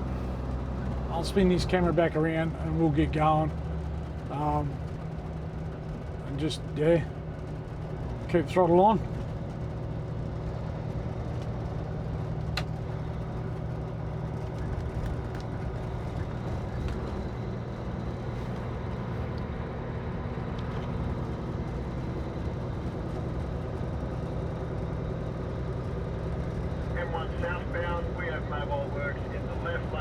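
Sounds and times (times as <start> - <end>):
road noise: 0.0 - 30.0
truck diesel engine running: 0.0 - 30.0.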